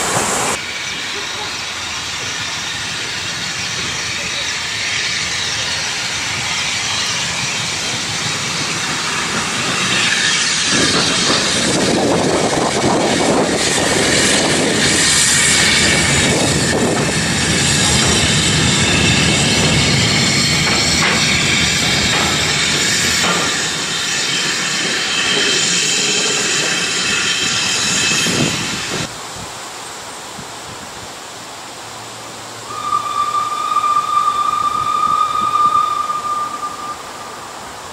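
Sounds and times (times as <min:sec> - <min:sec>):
steam hissing: 0:00.0 - 0:29.1, 0:32.6 - 0:37.9
steam locomotive running on rails: 0:00.0 - 0:37.9.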